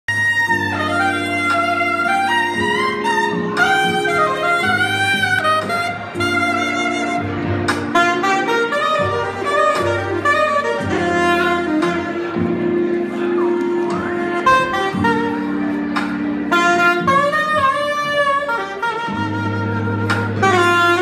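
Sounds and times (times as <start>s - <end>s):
backing track chords and bass: 0.1s - 21.0s
soprano saxophone jazzy melody: 0.1s - 21.0s.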